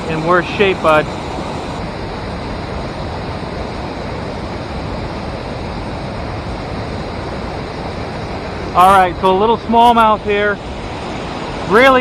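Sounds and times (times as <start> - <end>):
river water pouring over dam: 0.0 - 12.0.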